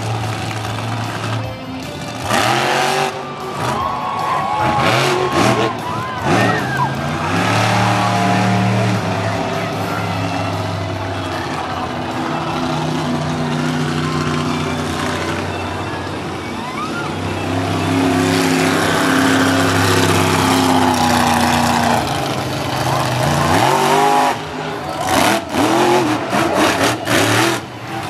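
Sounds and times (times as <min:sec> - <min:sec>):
truck engine revving: 0:00.0 - 0:28.0.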